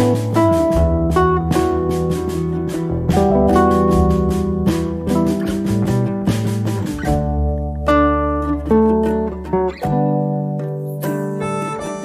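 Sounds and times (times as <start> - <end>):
instrumental music held notes: 0.0 - 12.0.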